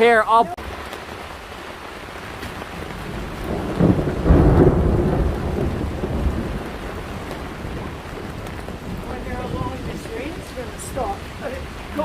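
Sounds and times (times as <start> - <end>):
rain hissing: 0.0 - 12.0
thunder rumbling: 0.6 - 12.0.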